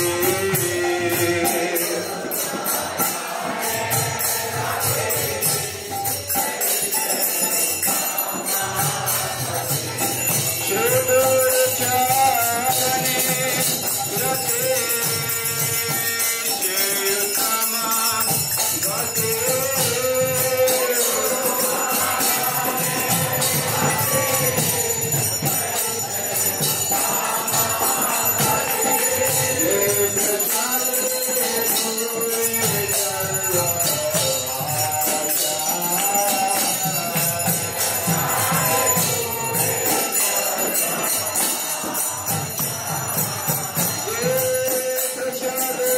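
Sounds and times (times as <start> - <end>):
jingling hand cymbals: 0.0 - 45.9.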